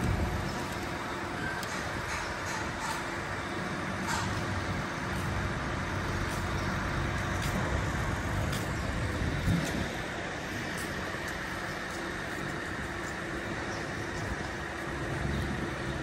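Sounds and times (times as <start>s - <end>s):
low rumble of motor traffic: 0.0s - 16.0s.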